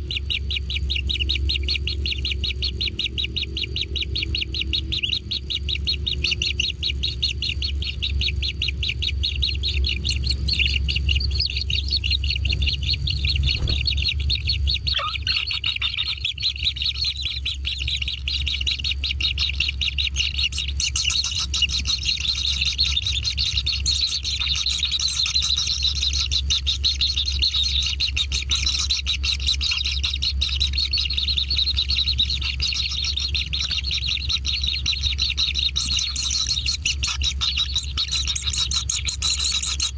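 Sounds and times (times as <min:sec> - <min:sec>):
nestlings begging chirps: 0:00.0 - 0:39.9
steady low rumble: 0:00.0 - 0:39.9.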